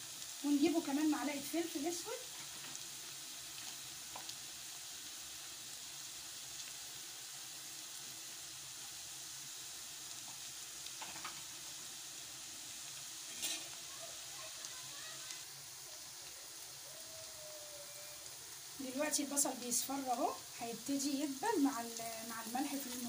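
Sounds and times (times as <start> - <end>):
onions sizzling in a pan: 0.0 - 23.0.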